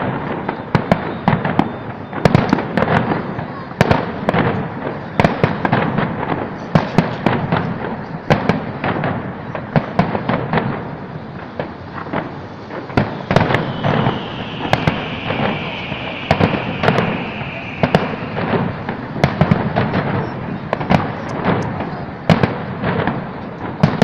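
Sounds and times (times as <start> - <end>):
fireworks bangs and cracks: 0.0 - 24.0
steady hiss: 4.1 - 23.7.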